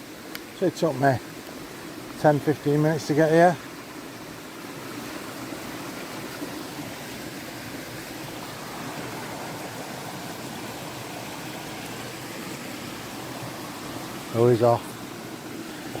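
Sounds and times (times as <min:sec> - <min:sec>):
stream rushing over falls: 0:00.0 - 0:16.0.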